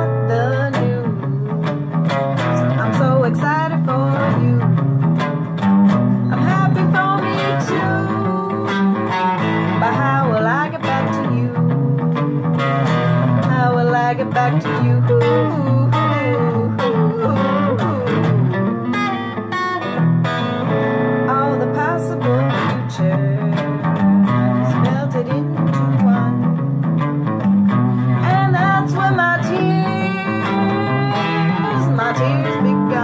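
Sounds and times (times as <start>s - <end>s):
electric guitar: 0.0s - 33.0s
woman singing blues: 0.0s - 33.0s.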